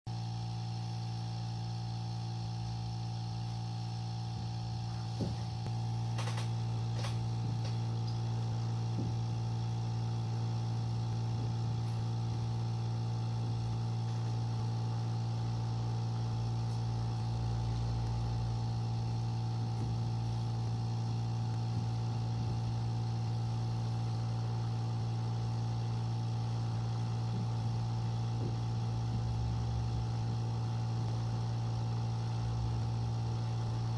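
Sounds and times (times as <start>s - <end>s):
machine hum with whine: 0.1s - 33.9s.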